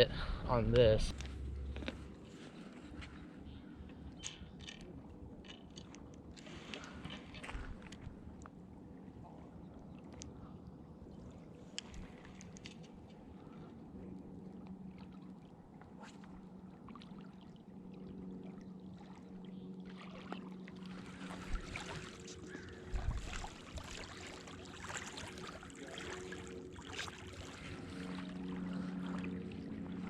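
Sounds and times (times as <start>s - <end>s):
distant motorboat engine humming: 0.0s - 30.0s
water lapping at shore: 0.0s - 30.0s.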